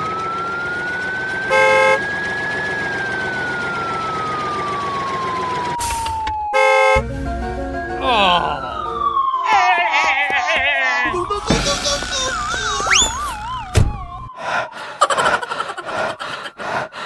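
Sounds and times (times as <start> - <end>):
siren-like wail: 0.0 - 7.0, 7.8 - 11.6, 12.3 - 17.0.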